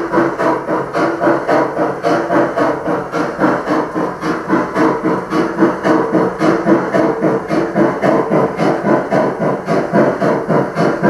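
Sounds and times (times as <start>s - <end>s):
model steam locomotive chuffing: 0.0s - 11.0s
steady hum: 0.0s - 11.0s.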